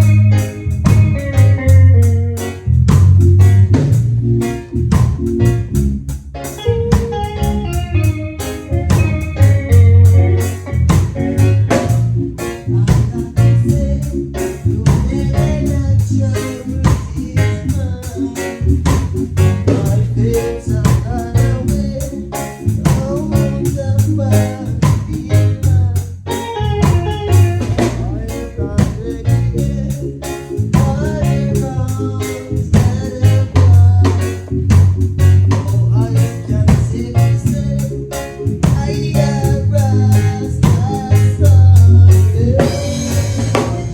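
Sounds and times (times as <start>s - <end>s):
drum kit: 0.0s - 43.9s
guitar: 0.0s - 43.9s
live band playing: 0.0s - 43.9s.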